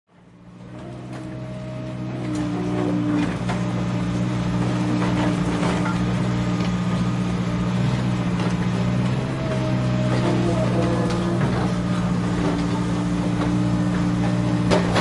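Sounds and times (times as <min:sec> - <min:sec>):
low motor hum: 0:00.1 - 0:15.0.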